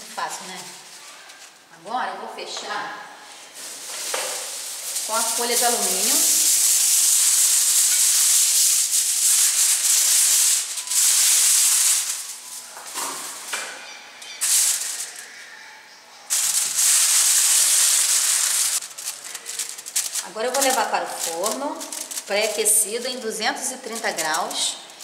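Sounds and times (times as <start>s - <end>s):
aluminium foil crinkling: 0.0s - 1.6s, 3.5s - 15.3s, 16.3s - 25.0s.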